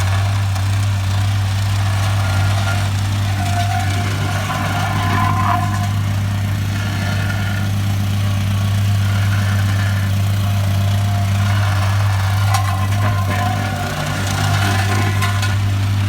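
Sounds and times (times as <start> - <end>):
engine idling with low hum: 0.0 - 16.0.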